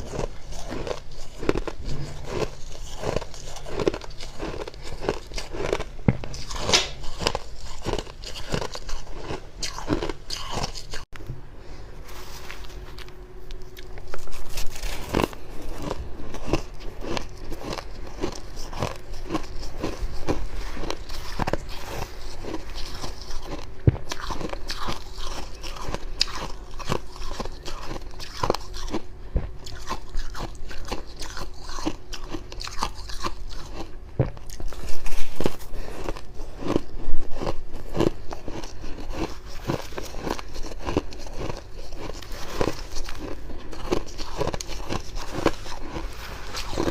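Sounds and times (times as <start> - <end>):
chewing crunchy frost: 0.0 - 11.2, 12.1 - 46.9.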